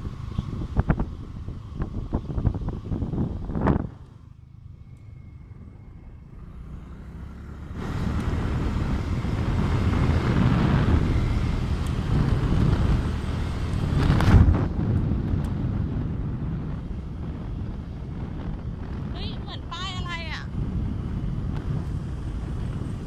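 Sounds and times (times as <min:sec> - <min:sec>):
motorbike engine rumble: 0:00.0 - 0:23.0
wind rushing over microphone: 0:00.0 - 0:23.0.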